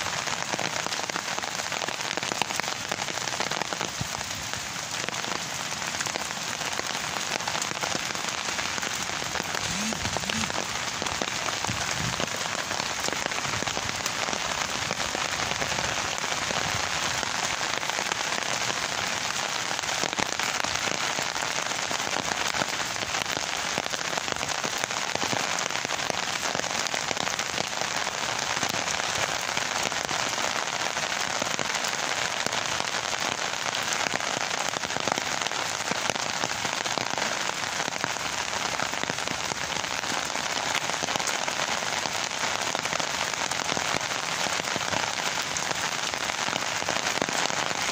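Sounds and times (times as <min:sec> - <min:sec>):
rain falling on leaves: 0:00.0 - 0:47.9.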